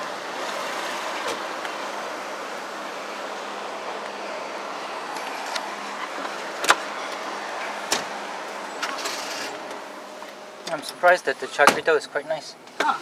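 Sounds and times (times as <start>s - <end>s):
car cabin engine and road noise: 0.0s - 13.0s.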